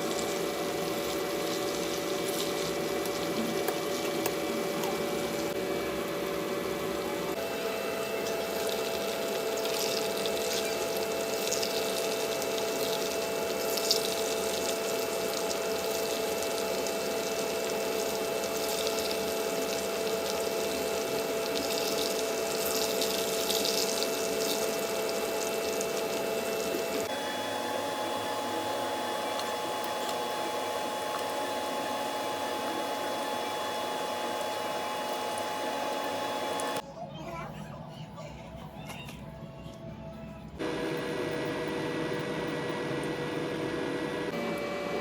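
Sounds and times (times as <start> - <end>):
mechanical hum: 0.0 - 45.0.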